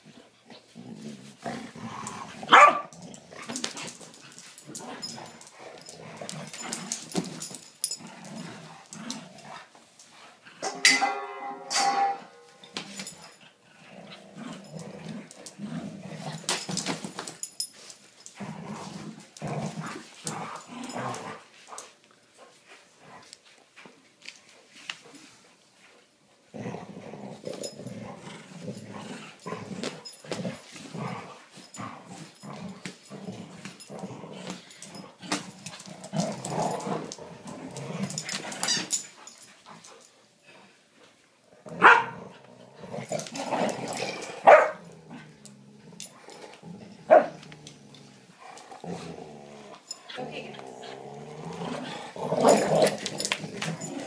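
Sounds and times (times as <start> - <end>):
dogs growling: 0.5 - 10.4, 12.7 - 17.6, 18.2 - 21.9, 26.5 - 40.0, 41.5 - 54.0.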